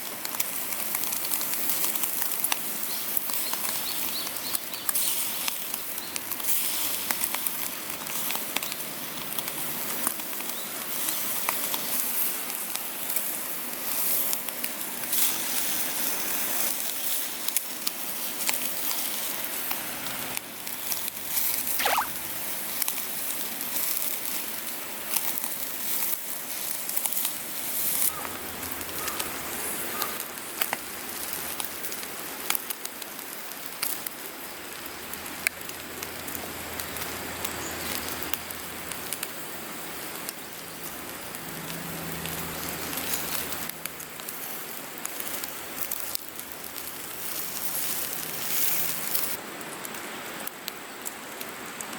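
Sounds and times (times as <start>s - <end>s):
meat grilling sizzle: 0.0s - 51.9s
wood fire crackling: 0.0s - 51.9s.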